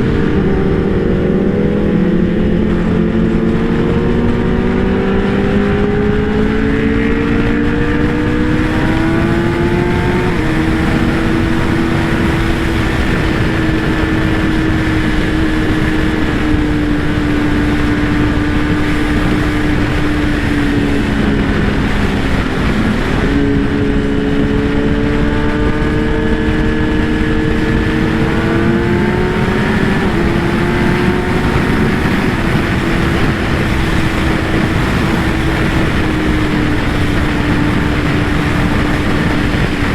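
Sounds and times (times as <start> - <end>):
heavy wind noise: 0.0 - 39.9
motorcycle engine at speed: 0.0 - 39.9.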